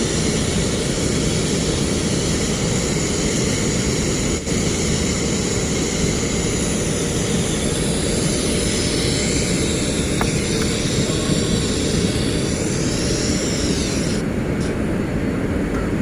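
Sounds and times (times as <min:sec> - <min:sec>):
low rumble of running machinery: 0:00.0 - 0:16.0.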